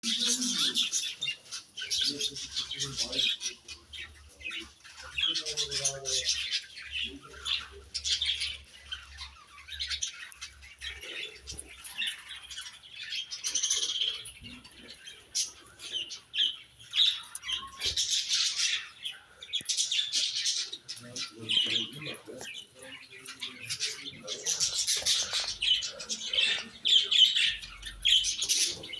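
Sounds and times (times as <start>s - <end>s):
parrots chirping and squawking: 0.0s - 28.9s.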